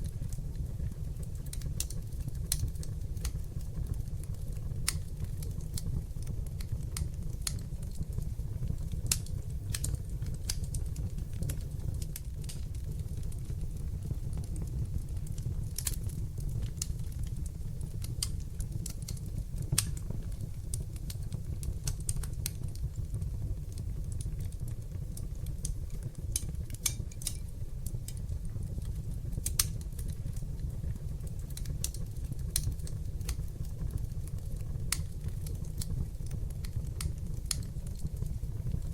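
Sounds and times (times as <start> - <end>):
fire flames rumbling: 0.0 - 38.9
wood fire crackling and popping: 0.0 - 38.9.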